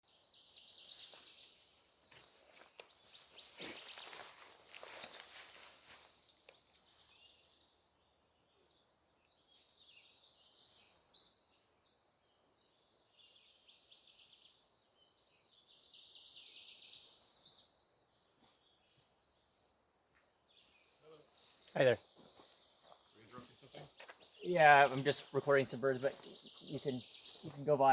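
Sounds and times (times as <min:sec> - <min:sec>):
songbirds singing: 0:00.0 - 0:27.9.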